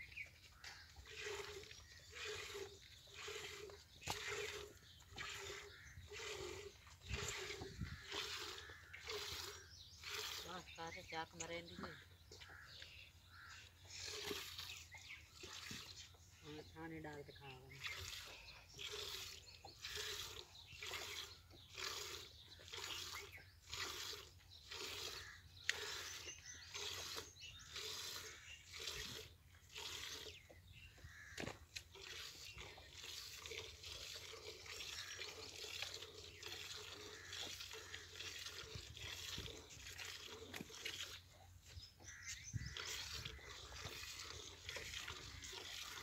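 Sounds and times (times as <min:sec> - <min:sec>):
calf sucking and slurping: 0:00.0 - 0:46.0.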